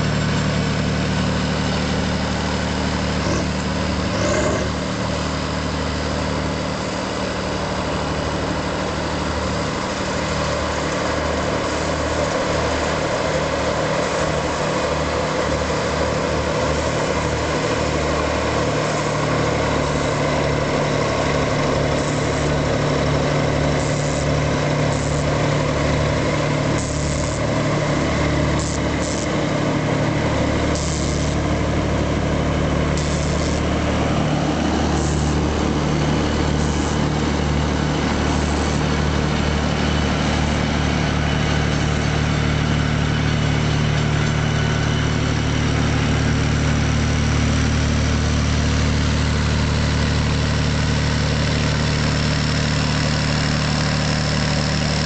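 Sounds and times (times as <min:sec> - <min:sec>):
heavy diesel tractor engines: 0:00.0 - 0:55.0.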